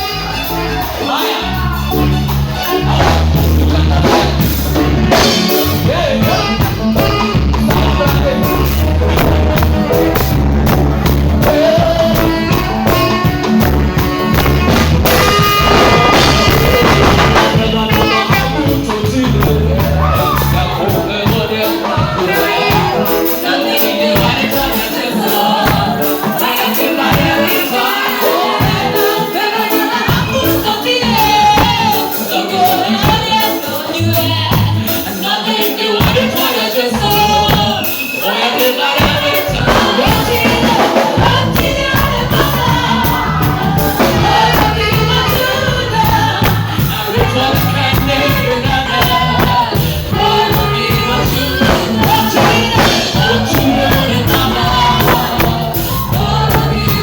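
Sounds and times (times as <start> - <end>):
bass line: 0.0 - 29.2, 30.0 - 35.1, 36.0 - 38.0, 38.8 - 57.0
fast rhythmic percussion: 0.0 - 57.0
voices singing gospel: 0.0 - 57.0.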